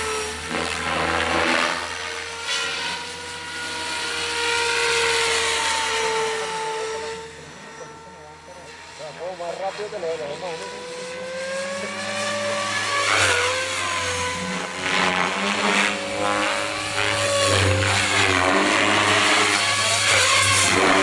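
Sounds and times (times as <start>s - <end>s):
model helicopter rotor whine: 0.0s - 21.0s.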